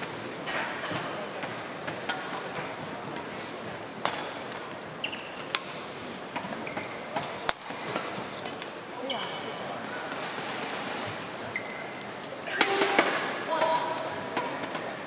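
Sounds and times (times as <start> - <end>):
murmur of arena crowd: 0.0 - 15.0.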